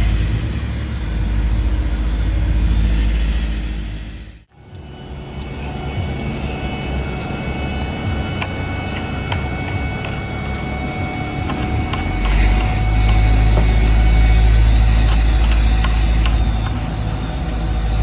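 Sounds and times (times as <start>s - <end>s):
heavy machinery engines rumbling: 0.0s - 18.0s
high machine whine: 0.0s - 18.0s.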